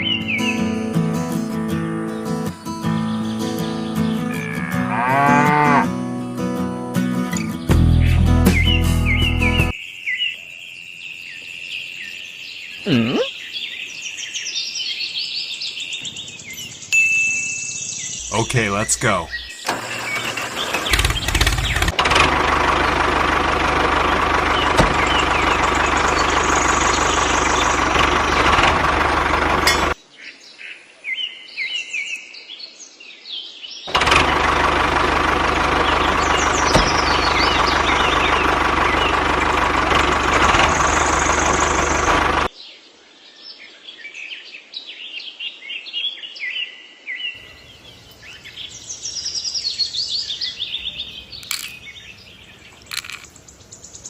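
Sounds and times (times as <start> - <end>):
birds chirping: 0.0 - 32.2, 33.8 - 42.9, 47.2 - 54.0.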